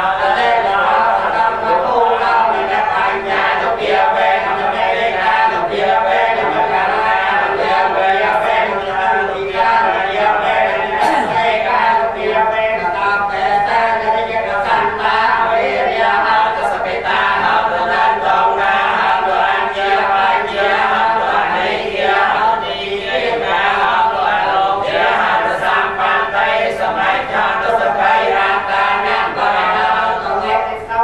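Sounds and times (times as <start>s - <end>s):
voices chanting prayers in unison: 0.0s - 31.0s.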